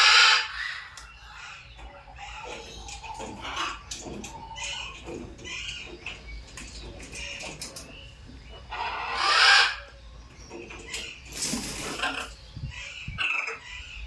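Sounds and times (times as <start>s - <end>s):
macaws squawking and chattering: 0.0s - 14.0s.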